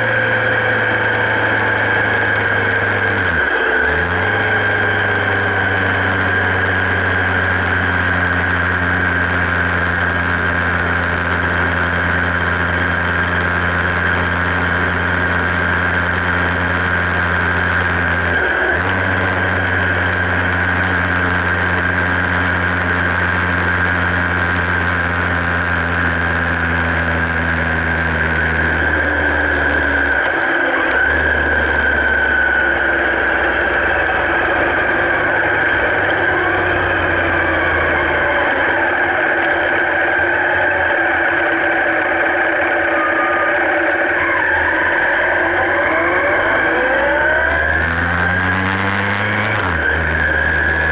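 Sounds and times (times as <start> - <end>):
high engine whine: 0.0 - 50.9
vehicle engine humming: 0.0 - 50.9.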